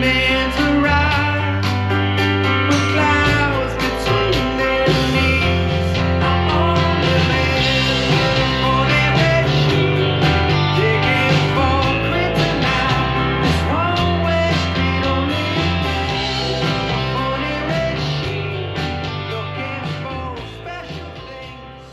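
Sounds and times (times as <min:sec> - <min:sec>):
guitar rock music with singing: 0:00.0 - 0:21.9.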